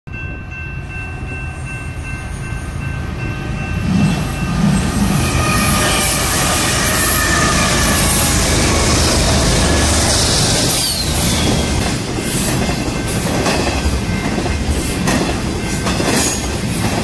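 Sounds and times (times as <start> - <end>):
steady high tones: 0.1 - 16.0
freight train passing: 0.1 - 17.0
train wheel noise: 0.3 - 17.0.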